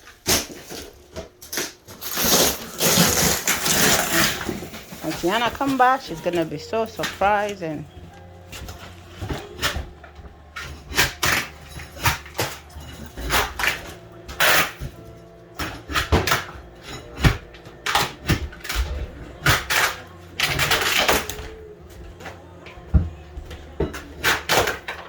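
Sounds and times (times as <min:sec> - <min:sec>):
background music: 0:00.3 - 0:25.0.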